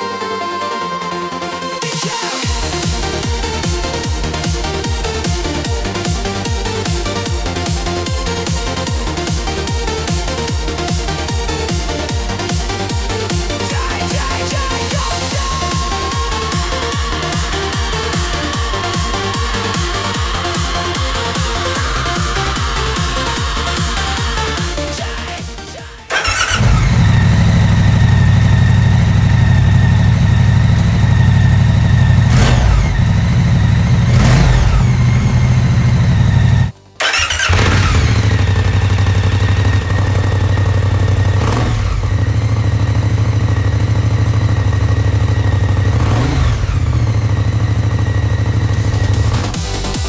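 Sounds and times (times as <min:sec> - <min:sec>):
motorcycle engine idling: 0:02.4 - 0:50.0.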